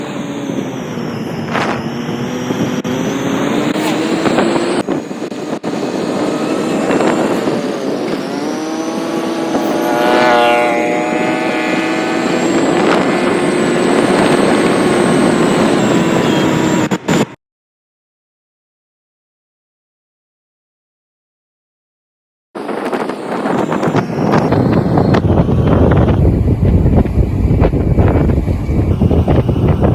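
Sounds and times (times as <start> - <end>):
road and wind noise: 0.0 - 17.4, 22.6 - 29.9
vehicle engine at road speed: 0.0 - 17.4, 22.6 - 29.9.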